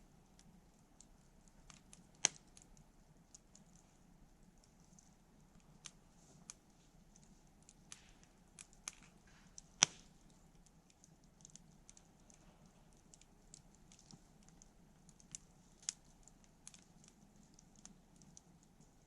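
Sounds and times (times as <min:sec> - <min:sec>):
campfire crackling: 0:00.2 - 0:19.0.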